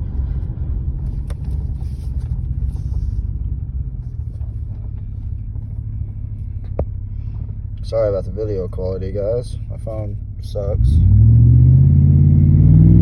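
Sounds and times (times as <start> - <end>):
truck engine and loud exhaust: 0.0 - 13.0.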